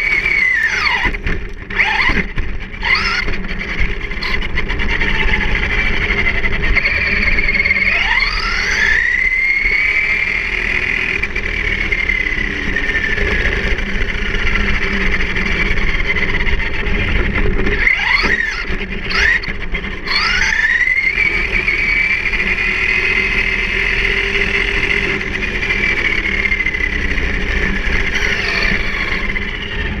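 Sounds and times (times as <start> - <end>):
electric motor whining: 0.0 - 30.0
tyres rumbling on asphalt: 0.0 - 30.0.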